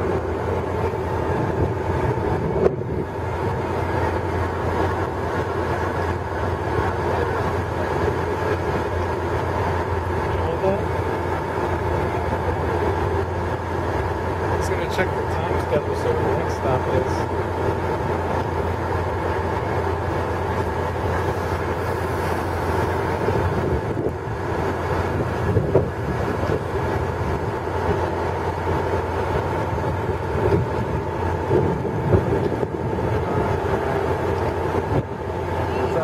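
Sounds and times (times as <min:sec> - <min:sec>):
boat engine drone: 0:00.0 - 0:36.0.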